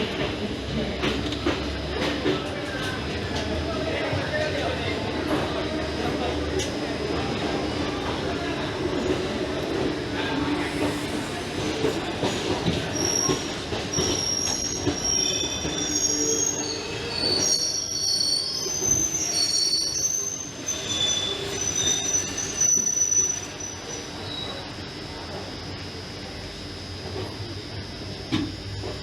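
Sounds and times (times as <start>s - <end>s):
train rumble: 0.0s - 29.0s
train wheels squealing on rails: 0.0s - 29.0s.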